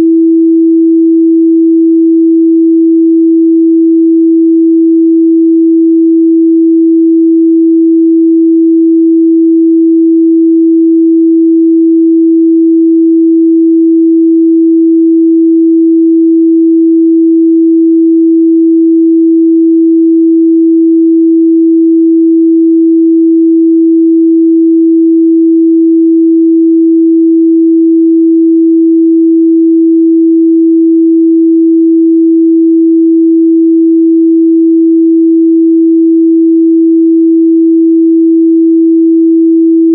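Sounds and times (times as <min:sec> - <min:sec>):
steady sine test tone: 0:00.0 - 0:39.9.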